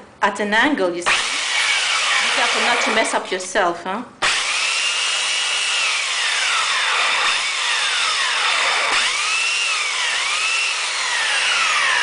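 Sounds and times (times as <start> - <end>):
electric belt sander on wood: 1.1 - 3.2, 4.2 - 12.0.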